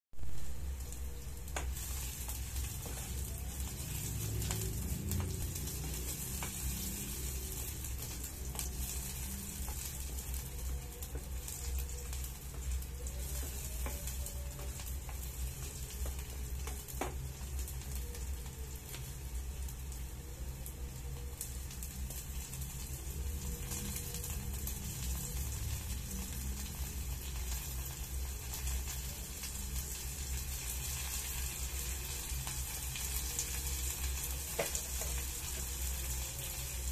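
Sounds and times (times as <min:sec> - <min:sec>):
onion sizzling in oil: 0:00.2 - 0:36.9.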